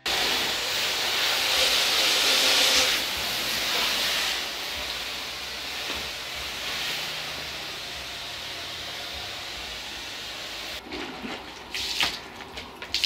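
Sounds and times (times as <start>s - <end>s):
hose spraying water on car: 0.0s - 10.8s.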